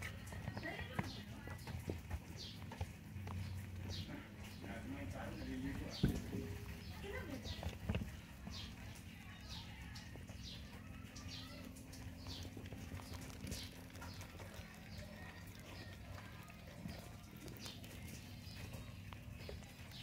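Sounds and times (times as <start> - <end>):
rats chewing and scrabbling: 0.0 - 20.0
rats chirping: 0.6 - 20.0.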